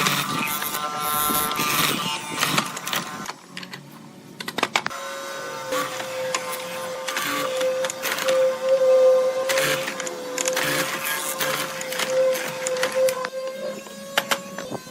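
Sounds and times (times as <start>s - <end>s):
power tool motor whining: 0.0s - 3.4s, 4.9s - 14.9s.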